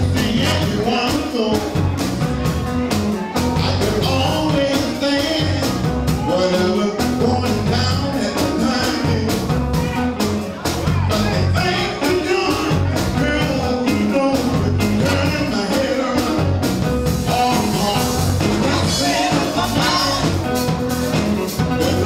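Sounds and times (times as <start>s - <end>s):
live soul band playing: 0.0s - 22.0s
man singing: 0.0s - 22.0s.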